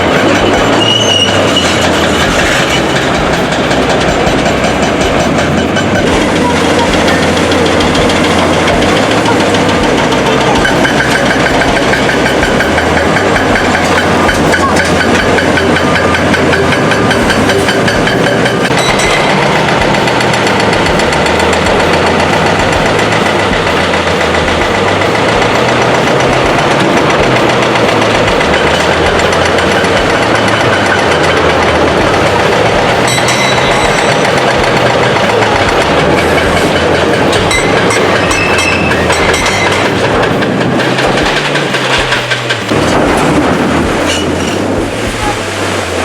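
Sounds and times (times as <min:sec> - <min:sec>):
diesel engine of heavy machinery: 0:00.0 - 0:46.0.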